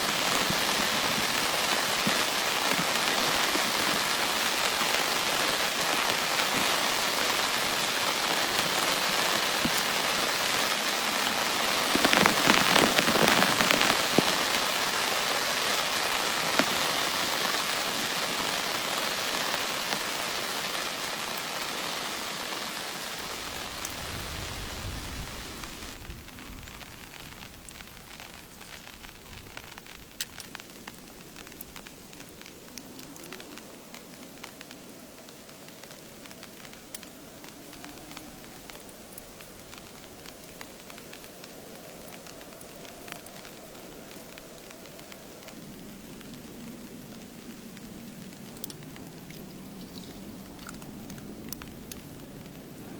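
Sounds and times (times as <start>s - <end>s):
heavy rain pattering: 0.0s - 52.9s.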